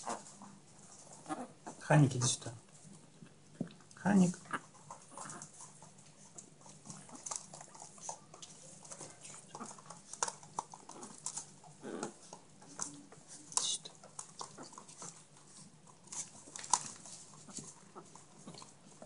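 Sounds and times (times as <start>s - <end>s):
puppies scratching and rustling: 0.0s - 19.0s
puppies scuffling: 0.0s - 19.0s.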